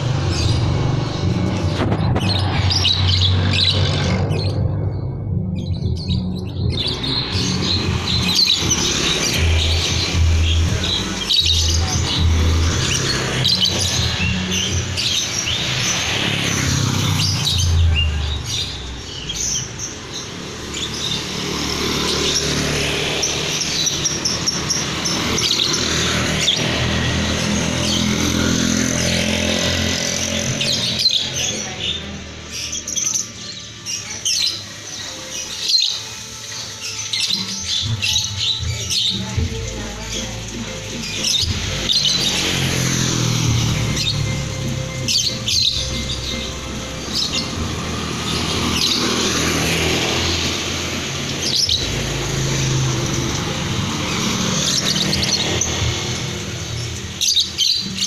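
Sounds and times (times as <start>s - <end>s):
background music: 0.0s - 58.0s
lovebirds chirping: 0.0s - 58.0s.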